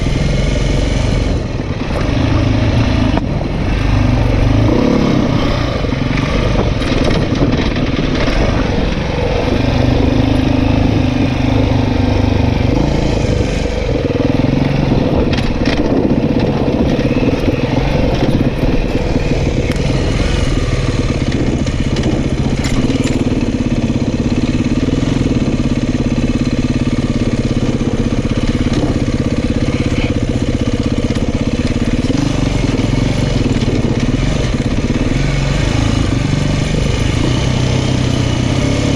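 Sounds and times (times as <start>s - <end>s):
constant rush of noise: 0.0s - 38.9s
dirt bike engine running: 0.0s - 38.9s.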